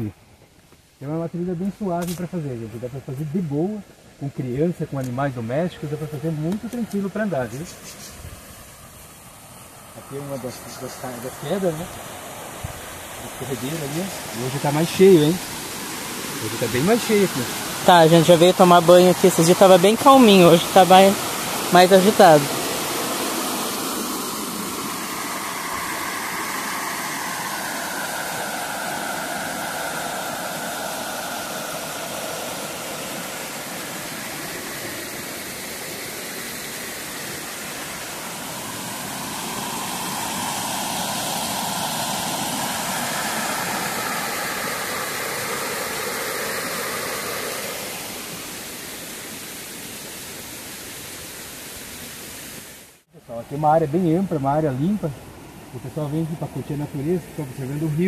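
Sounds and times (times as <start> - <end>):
small waterfall rushing: 0.0 - 58.0.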